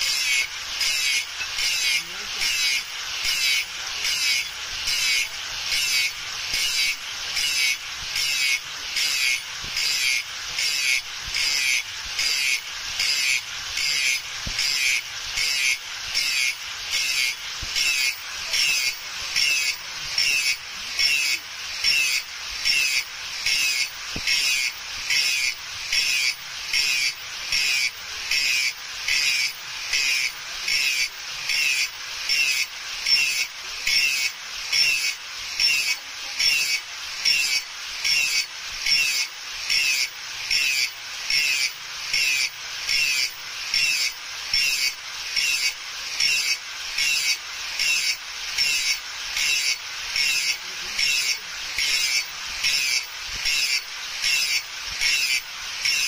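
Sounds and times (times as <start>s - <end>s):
file rasping on steel blade: 0.0s - 56.0s.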